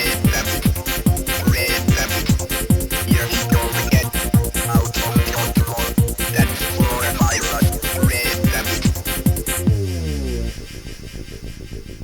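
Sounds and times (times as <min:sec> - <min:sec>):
fast ticking beat: 0:00.0 - 0:10.1
hardcore techno music: 0:00.0 - 0:12.0
pounding kick drums: 0:00.2 - 0:10.2.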